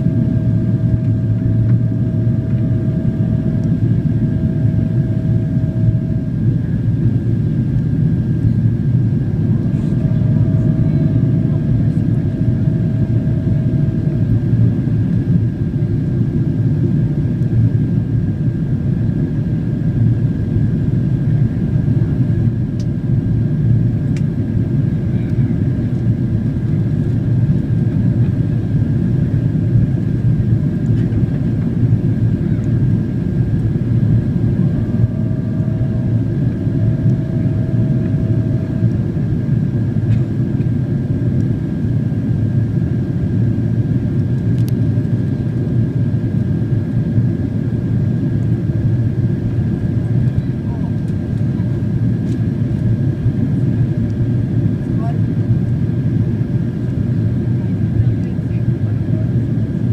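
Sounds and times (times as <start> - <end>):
aircraft cabin engine roar: 0.0 - 59.9.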